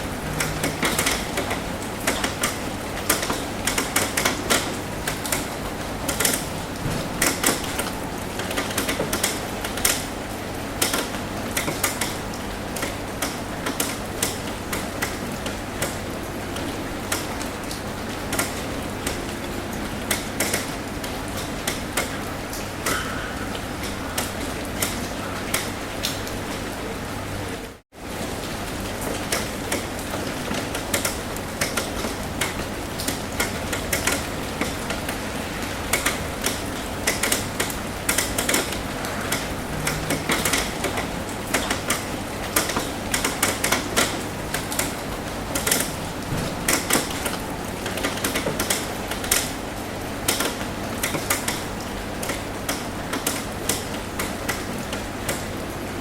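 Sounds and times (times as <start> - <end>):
rain on a metal roof: 0.0 - 56.0.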